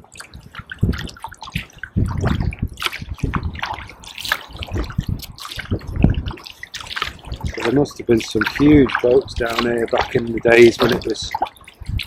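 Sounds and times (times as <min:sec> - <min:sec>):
kayak paddle strokes in water: 0:00.0 - 0:12.0
water dripping and splashing: 0:00.0 - 0:12.0.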